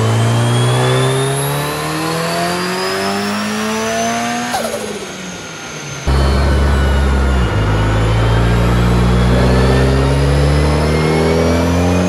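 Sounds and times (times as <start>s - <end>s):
car engine revving at full throttle: 0.0s - 12.0s.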